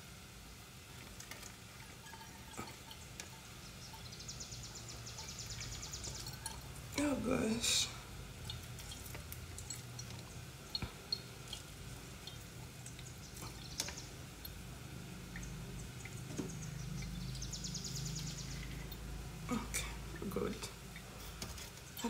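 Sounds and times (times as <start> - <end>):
juice dripping through strainer: 0.0 - 22.0
low steady hum: 0.0 - 22.0.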